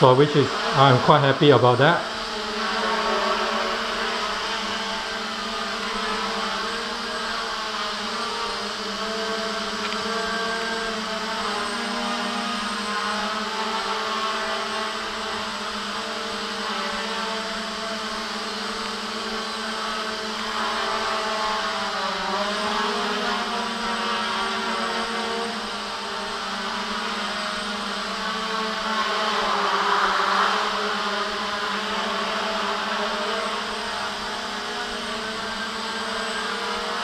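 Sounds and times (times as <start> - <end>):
drone motors whirring: 0.0 - 37.0.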